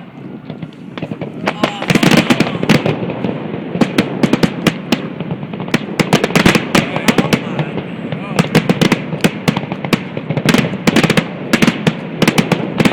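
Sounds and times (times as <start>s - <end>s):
fireworks bangs and crackles: 0.0s - 12.9s.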